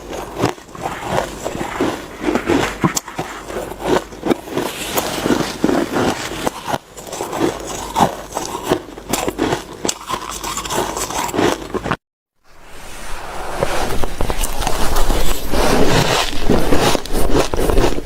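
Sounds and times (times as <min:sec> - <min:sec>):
shaved ice crunching: 0:00.0 - 0:11.9, 0:14.4 - 0:18.0.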